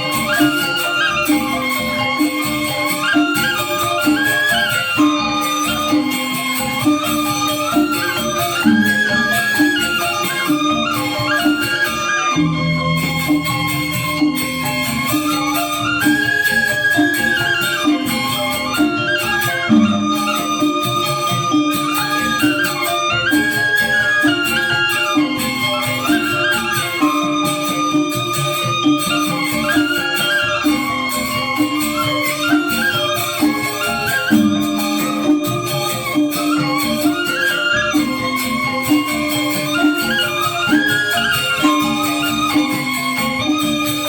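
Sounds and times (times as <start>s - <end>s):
bamboo instrument: 0.0s - 44.0s
gamelan ensemble playing: 0.0s - 44.0s.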